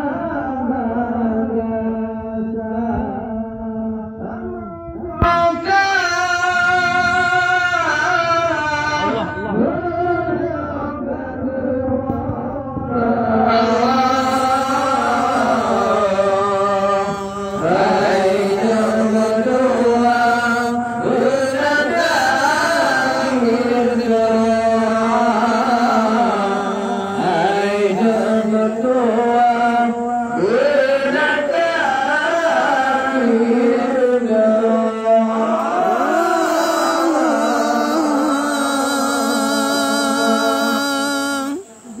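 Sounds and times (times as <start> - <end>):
person singing ornamented melody: 0.0 - 42.0.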